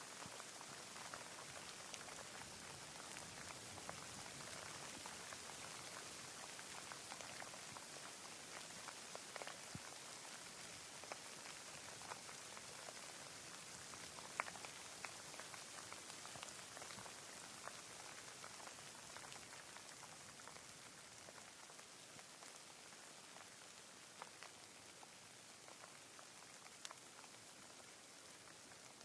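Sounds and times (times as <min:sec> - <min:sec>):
raindrops ticking: 0:00.1 - 0:29.0.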